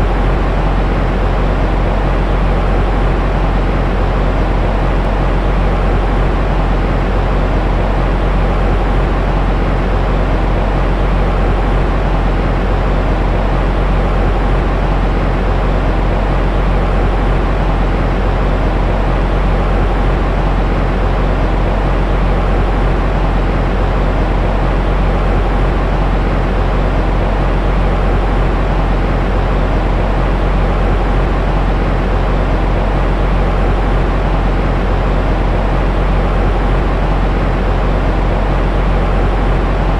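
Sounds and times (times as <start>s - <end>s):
deep white noise rush: 0.0s - 39.9s
faint hum: 0.0s - 39.9s.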